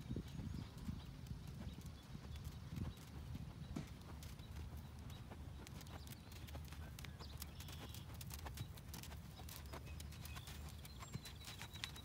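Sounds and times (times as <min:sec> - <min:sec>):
horse hooves on soft sand: 0:00.0 - 0:12.0.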